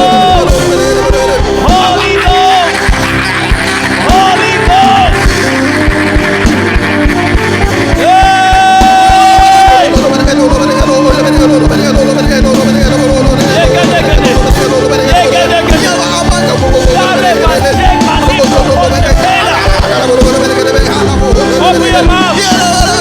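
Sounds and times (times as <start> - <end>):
held chords: 0.0 - 23.0
person singing and calling out: 0.0 - 23.0
steady drum beat: 0.0 - 23.0.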